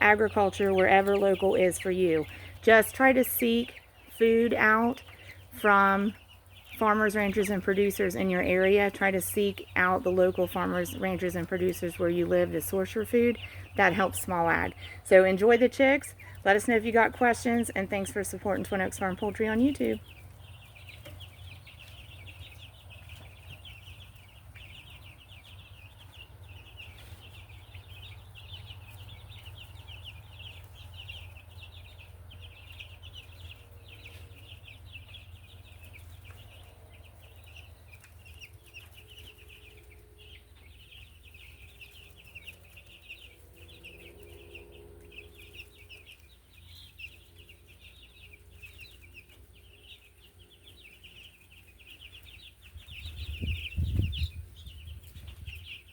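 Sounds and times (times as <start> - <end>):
chicks peeping: 0.0 - 55.9.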